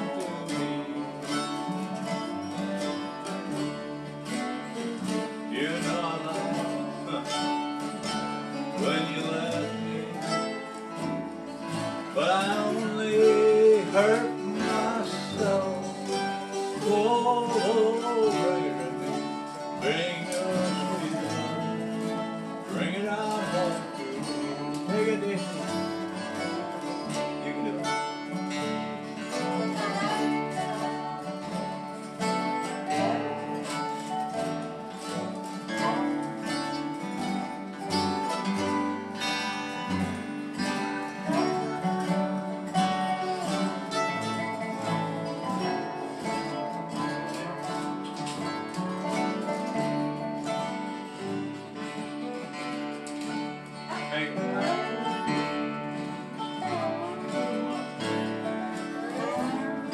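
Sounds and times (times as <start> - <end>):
plucked upright bass: 0.0 - 59.9
sliding resonator guitar lines: 0.0 - 59.9
strummed acoustic guitars: 0.0 - 59.9.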